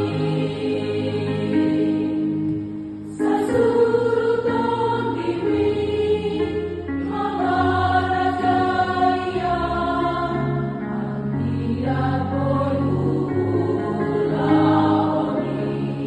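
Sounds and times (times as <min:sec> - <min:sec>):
women's choir singing a hymn: 0:00.0 - 0:16.0.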